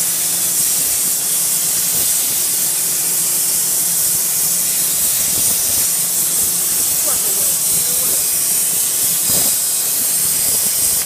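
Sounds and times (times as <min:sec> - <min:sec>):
plasma torch hissing: 0:00.0 - 0:11.0.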